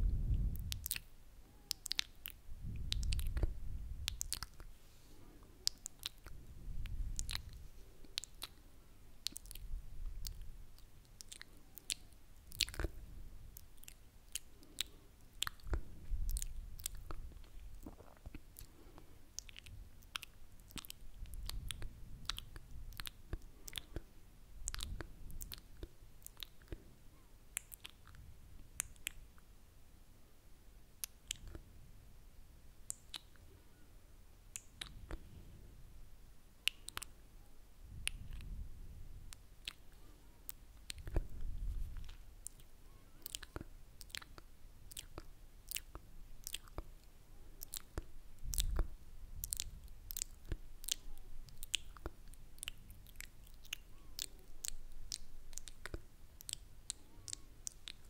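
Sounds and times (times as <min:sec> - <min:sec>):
wet mouth clicks and lip smacks: 0:00.3 - 0:01.1, 0:01.7 - 0:04.7, 0:05.6 - 0:08.6, 0:09.2 - 0:13.0, 0:13.6 - 0:26.8, 0:27.5 - 0:28.2, 0:28.8 - 0:29.5, 0:31.0 - 0:31.7, 0:32.8 - 0:33.5, 0:34.5 - 0:35.3, 0:36.6 - 0:37.2, 0:38.0 - 0:38.6, 0:39.3 - 0:58.0.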